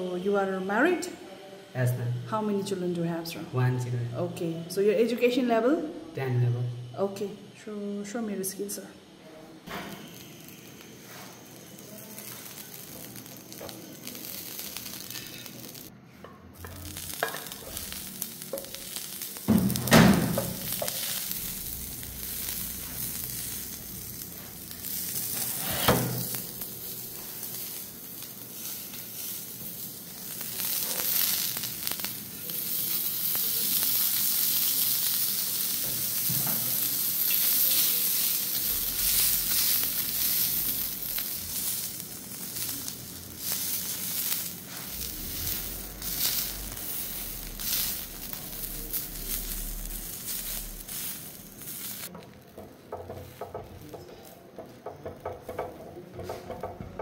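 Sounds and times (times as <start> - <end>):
sausages sizzling on grill pan: 9.7 - 15.9, 16.6 - 57.0.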